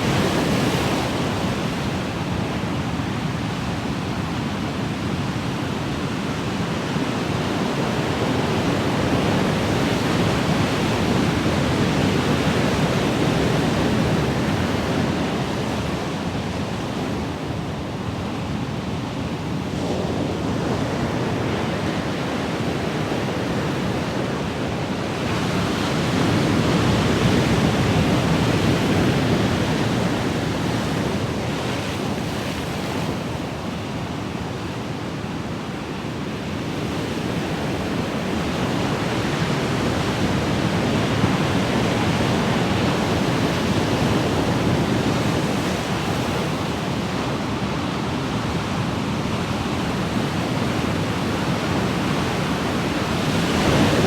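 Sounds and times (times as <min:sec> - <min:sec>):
ocean waves surf: 0:00.0 - 0:54.0.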